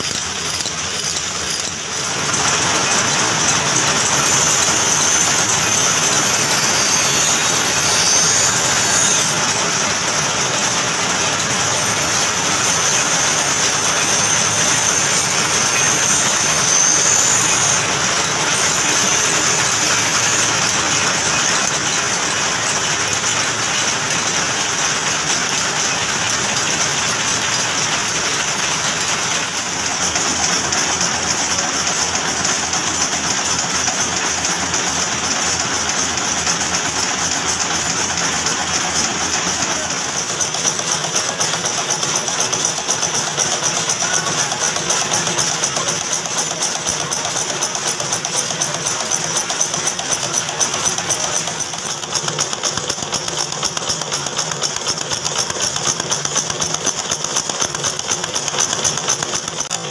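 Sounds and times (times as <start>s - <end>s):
machines clattering: 0.0s - 59.9s.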